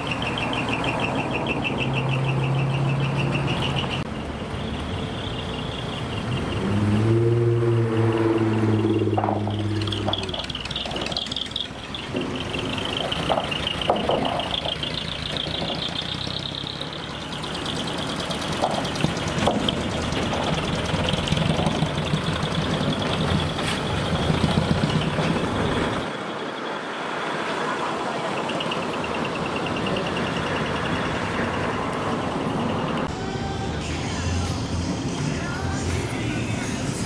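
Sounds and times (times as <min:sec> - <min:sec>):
diesel truck engine driving past: 0:00.0 - 0:33.1.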